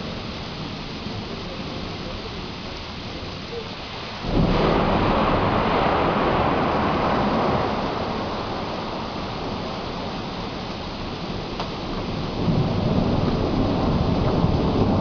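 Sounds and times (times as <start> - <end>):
rain falling: 0.0 - 15.0
rumbling thunderclap: 0.0 - 15.0.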